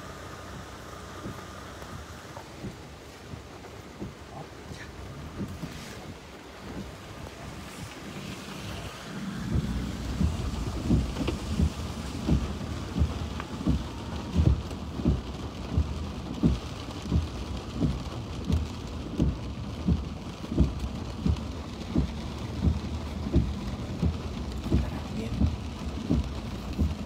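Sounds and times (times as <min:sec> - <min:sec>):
heavy rain on car windshield: 0:00.0 - 0:27.0
windshield wipers thumping: 0:00.0 - 0:27.0.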